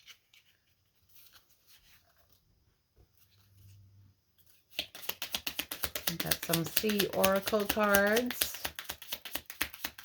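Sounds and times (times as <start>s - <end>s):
cards rustling and scraping: 0.0s - 2.5s, 3.1s - 10.0s.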